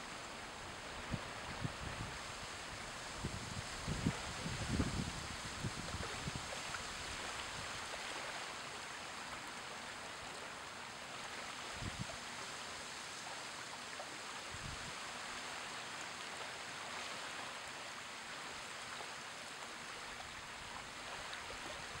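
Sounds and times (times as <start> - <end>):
small waves washing against shore: 0.0 - 22.0.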